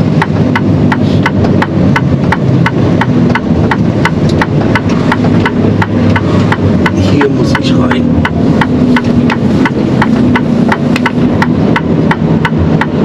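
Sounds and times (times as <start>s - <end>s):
truck engine running: 0.0s - 13.0s
turn signal ticking: 0.0s - 13.0s.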